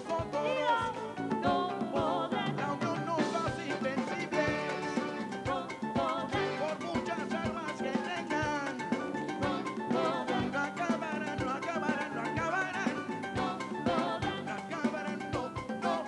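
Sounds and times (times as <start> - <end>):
live band playing rumba: 0.0 - 16.0
spanish guitar: 0.0 - 16.0.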